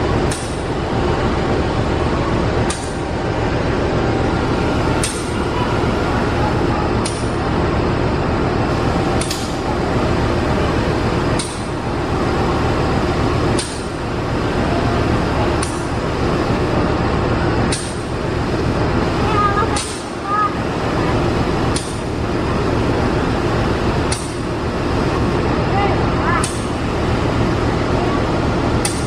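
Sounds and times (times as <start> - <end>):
locomotive engine running: 0.0 - 29.0.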